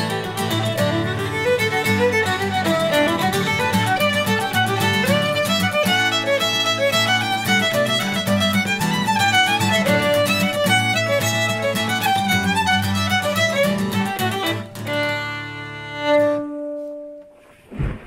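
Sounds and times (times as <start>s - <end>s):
fiddle tune: 0.0s - 17.3s
low accompaniment: 0.0s - 18.0s.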